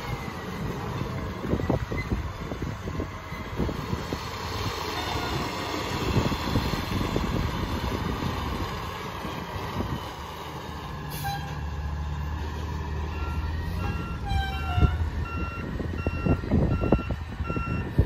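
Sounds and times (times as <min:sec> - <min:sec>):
garbage truck engine rumbling: 0:00.0 - 0:18.0.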